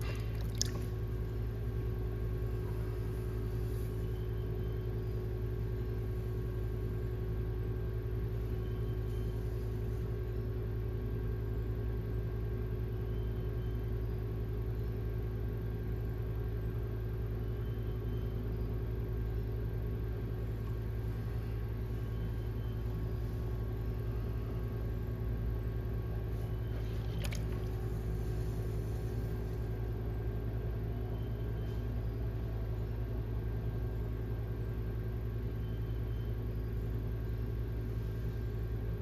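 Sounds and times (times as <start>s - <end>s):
pottery wheel motor hum: 0.0s - 39.0s.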